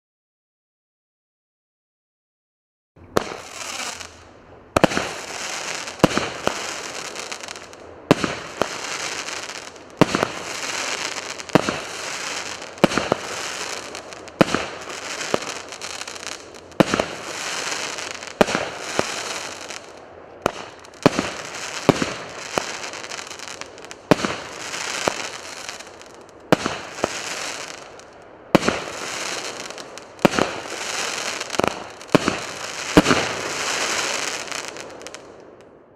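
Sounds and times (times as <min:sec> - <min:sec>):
firework shots banging: 0:03.0 - 0:35.4
firework hiss: 0:03.1 - 0:35.6.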